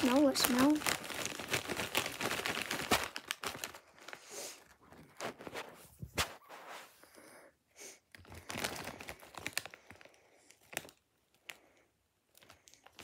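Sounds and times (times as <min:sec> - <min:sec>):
chip bag crinkling: 0:00.0 - 0:05.6, 0:08.1 - 0:13.0.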